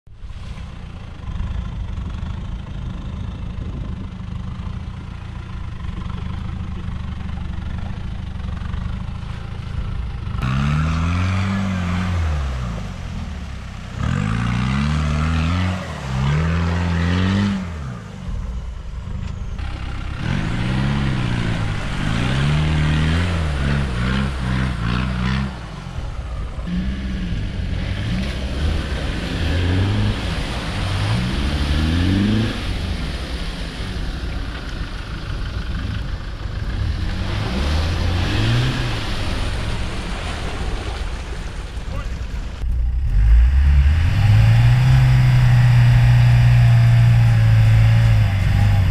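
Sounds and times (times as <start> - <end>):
mud and water splashing: 0.1 - 48.9
engines revving: 5.6 - 48.9.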